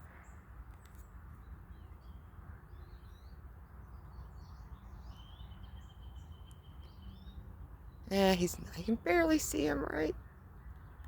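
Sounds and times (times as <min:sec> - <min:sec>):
small birds chirping: 0:00.2 - 0:10.2.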